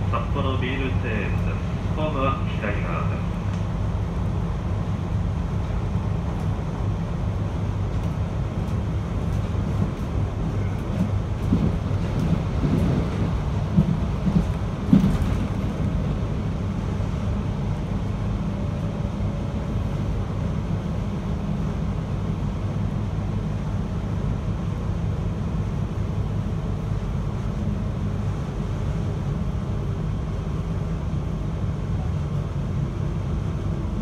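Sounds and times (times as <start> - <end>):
train wheels rumble and hum: 0.0 - 34.0.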